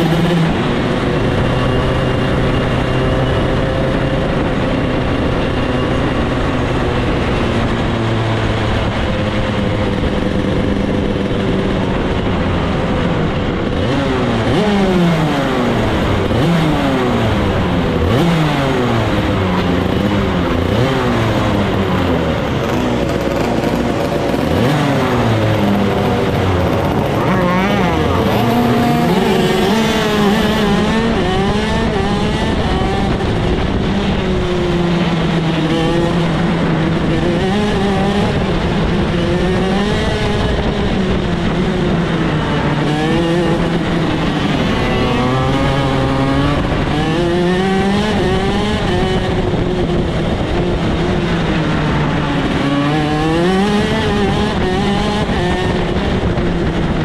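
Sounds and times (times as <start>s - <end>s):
kart engine running: 0.0s - 57.0s
other kart engines revving: 0.0s - 57.0s.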